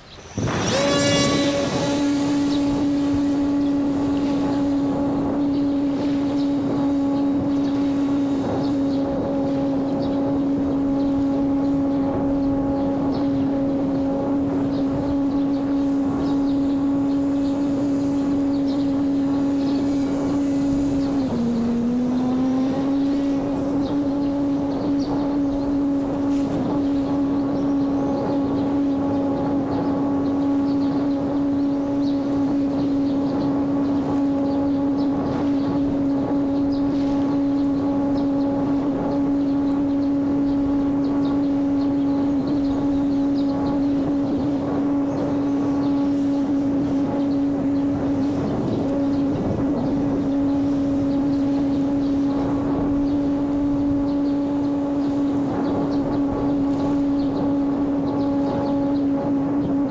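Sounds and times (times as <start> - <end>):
model airplane motor droning: 0.0 - 59.9
rushing wind: 0.0 - 59.9.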